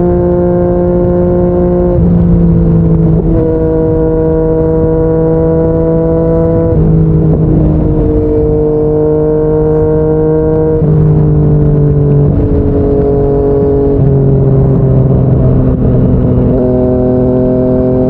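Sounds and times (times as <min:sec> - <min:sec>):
motorcycle engine at cruising speed: 0:00.0 - 0:18.0
wind and road noise: 0:00.0 - 0:18.0.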